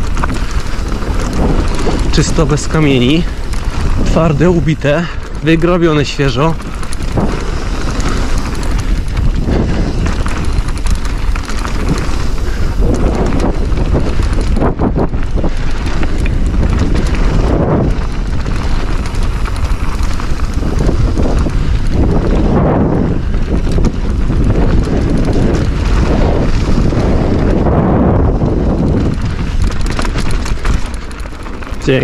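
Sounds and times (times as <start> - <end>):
bike knocks and rattles: 0.0 - 32.0
bike tyres rumbling on dirt: 0.0 - 32.0
wind buffeting microphone: 0.0 - 32.0.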